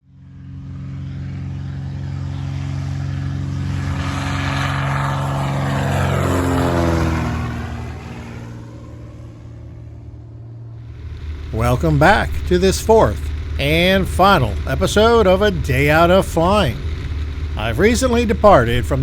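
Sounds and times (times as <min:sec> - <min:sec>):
propeller airplane flying past: 0:00.0 - 0:19.0.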